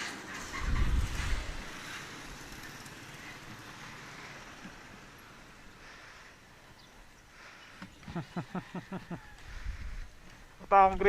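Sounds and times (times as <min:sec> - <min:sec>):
wind and road noise on microphone: 0:00.0 - 0:11.0.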